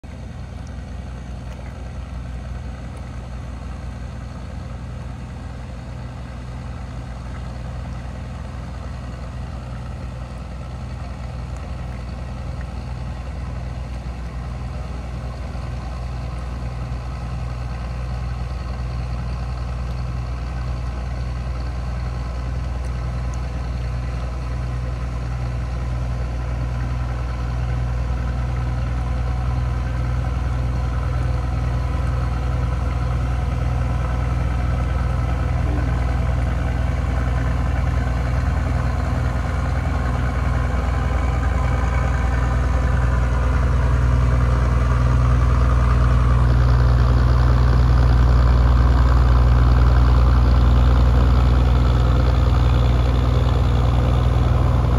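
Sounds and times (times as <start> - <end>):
boat engines humming: 0.0 - 54.9.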